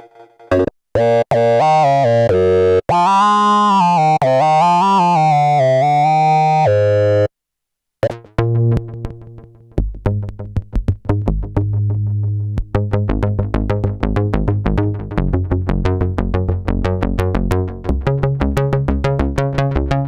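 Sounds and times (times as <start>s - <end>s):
synthesizer plucked notes: 0.0s - 7.3s, 8.0s - 20.0s.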